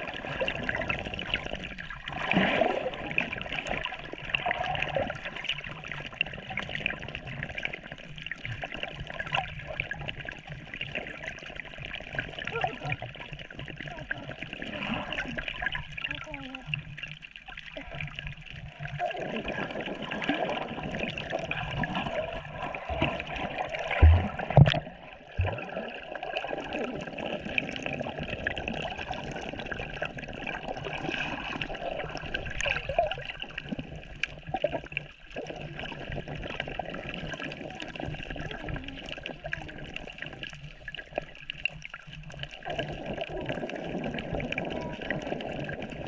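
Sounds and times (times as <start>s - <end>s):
water sloshing and gurgling: 0.0s - 46.0s.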